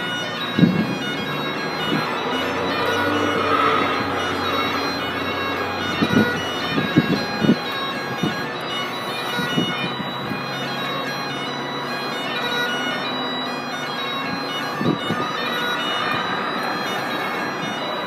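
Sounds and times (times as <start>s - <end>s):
bagpipe playing a tune: 0.0s - 18.0s.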